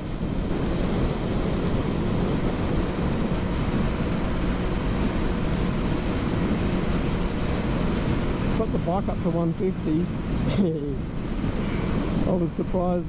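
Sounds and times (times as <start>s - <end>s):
wind rush over microphone: 0.0s - 13.0s.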